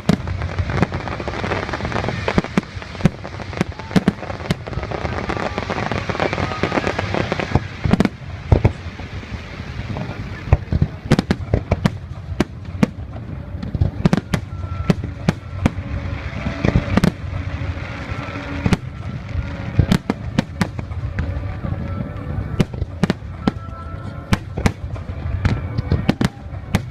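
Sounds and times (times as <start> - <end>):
fireworks bangs and crackles: 0.0 - 26.9
low rumble: 0.0 - 26.9.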